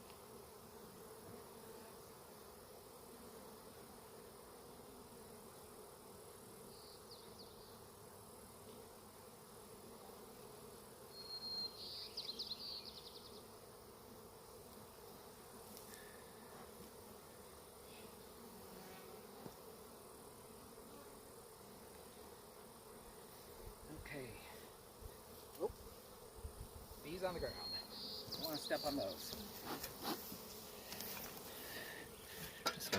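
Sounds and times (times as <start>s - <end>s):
honeybees buzzing: 0.0s - 32.9s.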